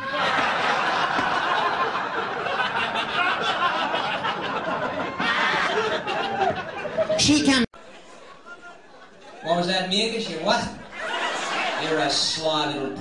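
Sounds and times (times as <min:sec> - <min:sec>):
audience laughing: 0:00.0 - 0:09.5, 0:10.8 - 0:12.5.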